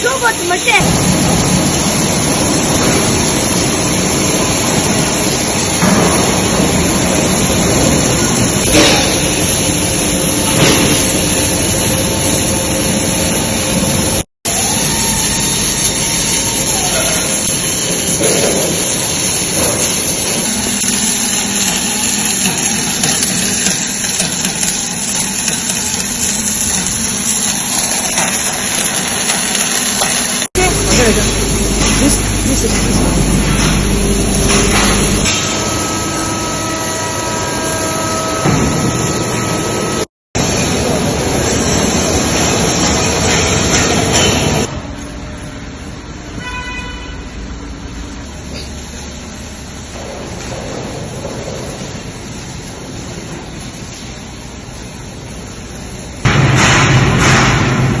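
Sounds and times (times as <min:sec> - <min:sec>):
factory machinery noise: 0:00.0 - 0:58.0
high steady whine: 0:00.0 - 0:58.0.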